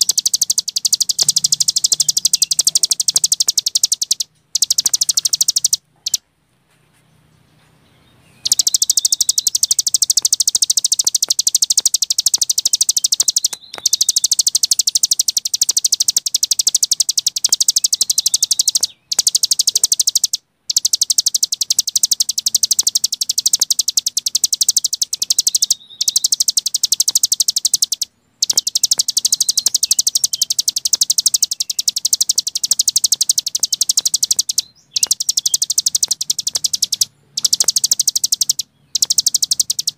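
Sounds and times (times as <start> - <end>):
songbird chattering trills: 0.0 - 6.2, 8.1 - 39.9.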